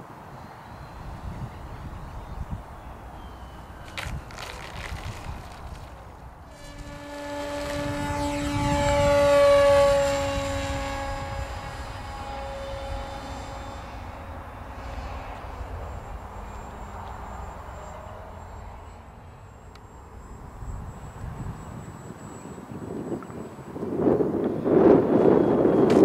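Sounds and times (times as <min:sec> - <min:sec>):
electric model plane motor whining: 0:03.9 - 0:25.9.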